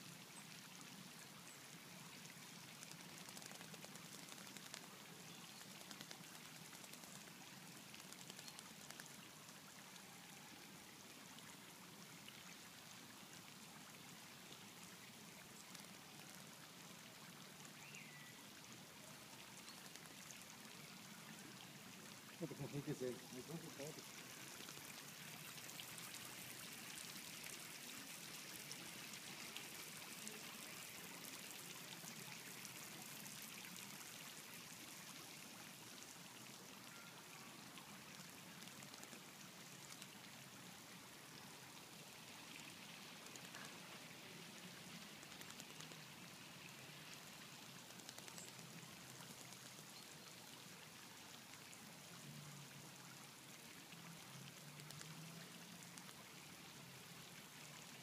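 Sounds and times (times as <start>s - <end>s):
fountain spray splashing: 0.0s - 58.0s.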